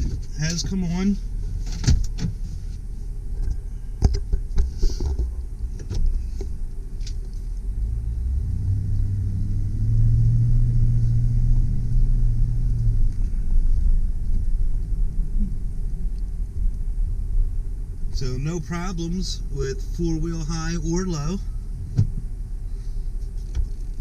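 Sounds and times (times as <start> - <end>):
truck engine rumble: 0.0 - 24.0.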